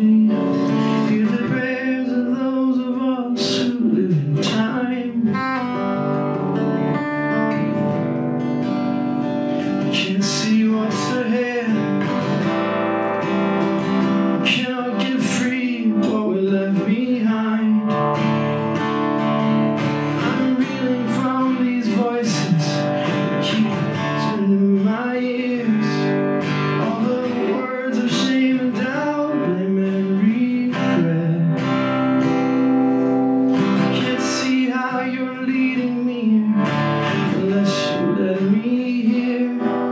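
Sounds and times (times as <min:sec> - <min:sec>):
man singing: 0:00.0 - 0:08.4, 0:09.1 - 0:39.9
acoustic guitar strumming: 0:00.0 - 0:39.9.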